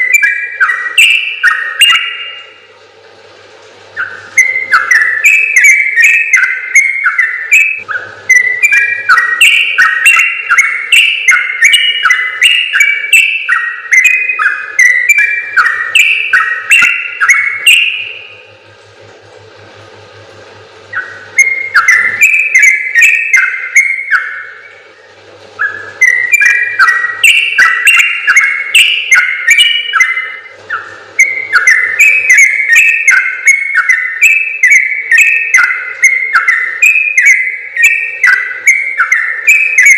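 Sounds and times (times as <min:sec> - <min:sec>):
bulbul singing whistled notes: 0:00.0 - 0:02.6, 0:03.9 - 0:18.6, 0:20.9 - 0:39.9.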